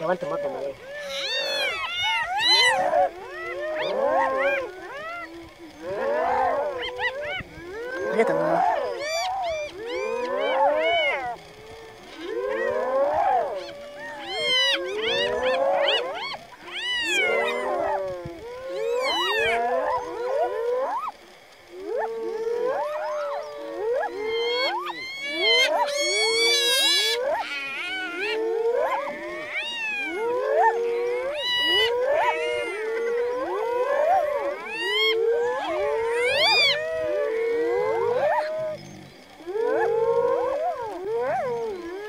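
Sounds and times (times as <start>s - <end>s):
hyenas giggling: 0.0s - 22.1s, 23.0s - 42.0s
hyenas whooping and whining: 0.0s - 42.0s.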